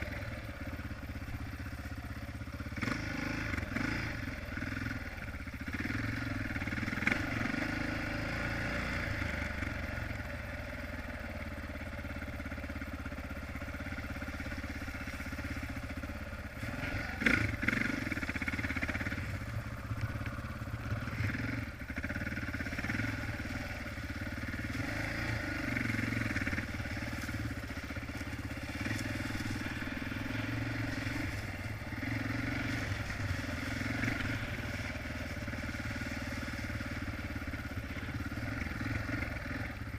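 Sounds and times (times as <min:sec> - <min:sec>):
dirt bike engine revving: 0:02.6 - 0:10.2, 0:13.8 - 0:39.9.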